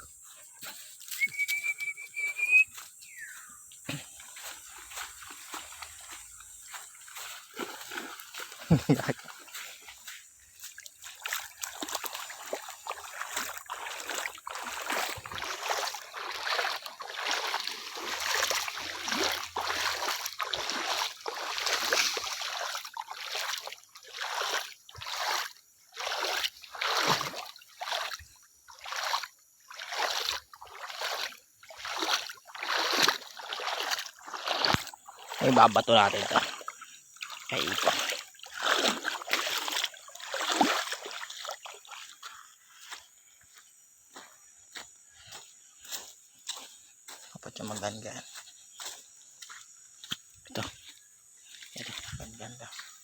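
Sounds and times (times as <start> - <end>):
water splashing and sloshing: 3.6 - 53.0.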